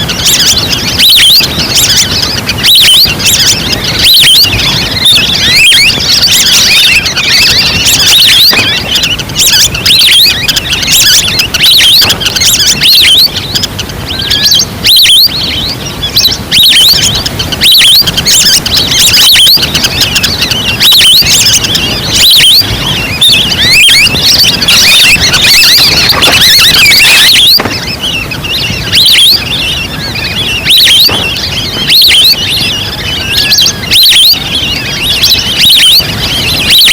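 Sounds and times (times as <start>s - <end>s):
ducks whistling calls: 0.0s - 36.9s.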